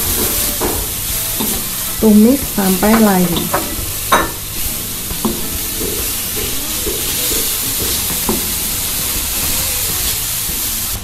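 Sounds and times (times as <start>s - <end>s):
spatula knocking against wok: 0.0s - 9.9s
vegetables sizzling in oil: 0.0s - 11.0s.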